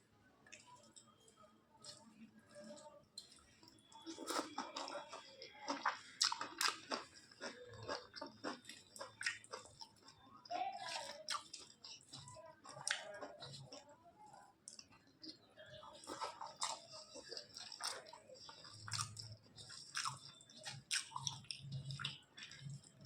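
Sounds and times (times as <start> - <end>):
person chewing food: 0.5 - 23.0.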